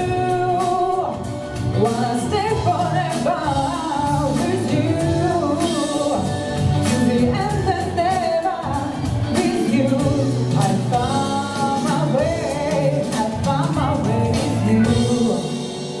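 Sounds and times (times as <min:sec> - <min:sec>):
backing music with beat: 0:00.0 - 0:16.0
woman singing pop ballad: 0:00.0 - 0:16.0.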